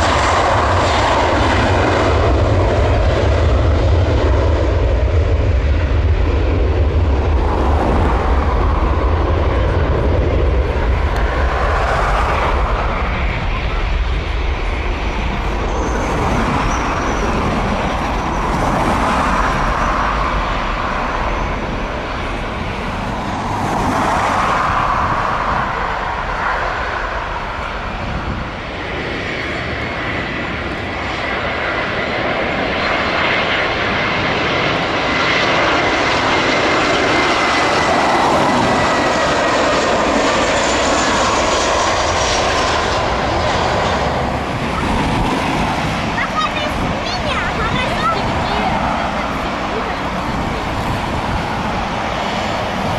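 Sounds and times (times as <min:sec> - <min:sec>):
jet engines running: 0:00.0 - 0:52.9.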